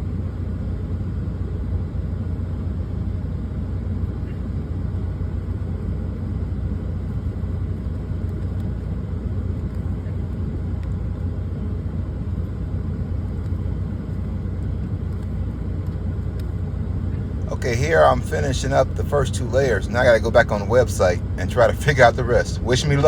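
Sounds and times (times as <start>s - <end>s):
truck engine rumble from cab: 0.0s - 23.0s.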